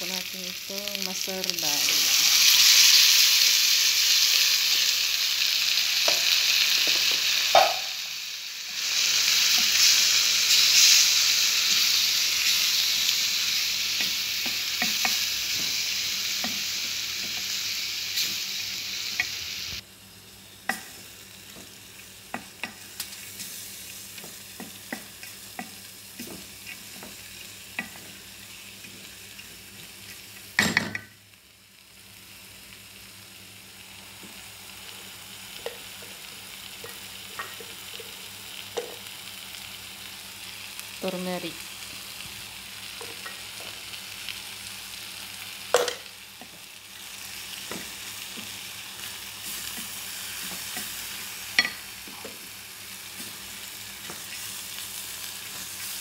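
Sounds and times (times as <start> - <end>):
lentils sizzling in hot oil: 0.0 - 56.0.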